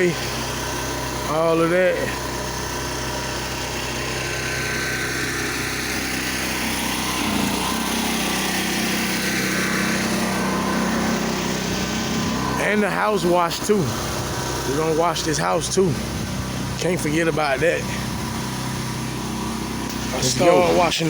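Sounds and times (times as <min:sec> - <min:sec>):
pressure washer engine running: 0:00.0 - 0:21.0.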